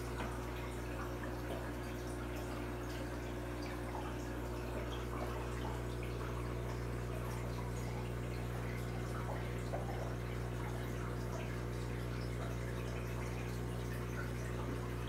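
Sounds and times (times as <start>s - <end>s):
aquarium equipment hum: 0.0s - 15.0s
small water drips: 0.0s - 15.0s
water trickling: 0.0s - 15.0s.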